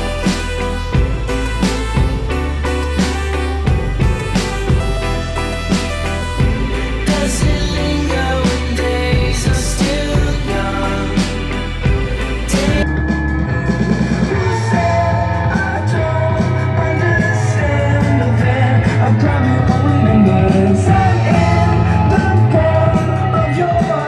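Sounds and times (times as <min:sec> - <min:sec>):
indie rock song: 0:00.0 - 0:24.0.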